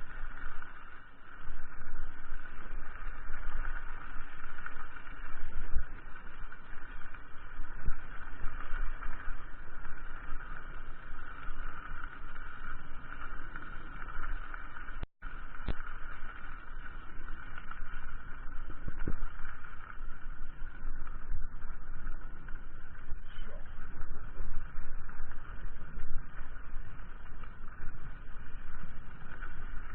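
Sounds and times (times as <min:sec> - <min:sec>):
mountain bike rumble and rattle: 0:00.0 - 0:29.9.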